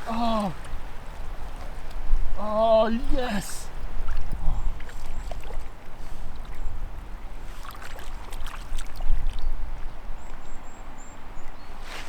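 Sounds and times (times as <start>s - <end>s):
water splashing and sloshing: 0.0s - 10.4s.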